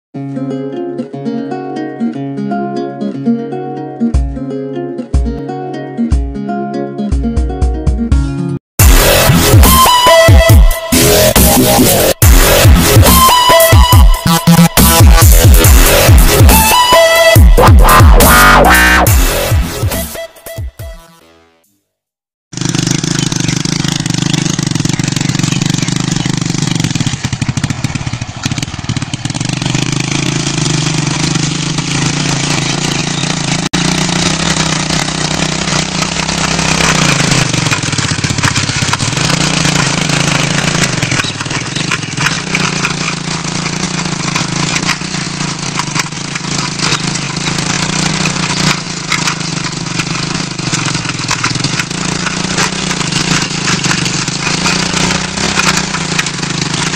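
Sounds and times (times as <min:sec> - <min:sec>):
motorcycle engine under load: 0:08.8 - 0:20.3, 0:22.5 - 0:56.9.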